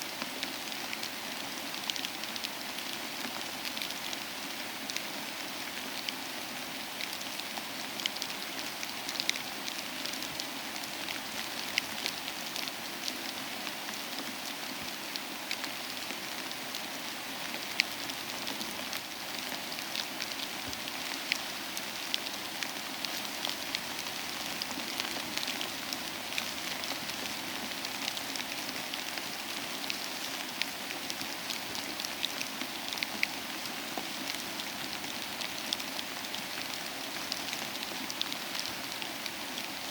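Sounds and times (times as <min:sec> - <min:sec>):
soft rain: 0:00.0 - 0:39.9.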